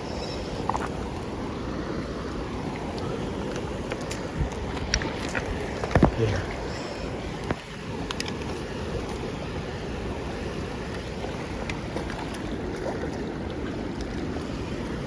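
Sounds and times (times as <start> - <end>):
water noise: 0.0 - 15.0
wind: 0.0 - 15.0.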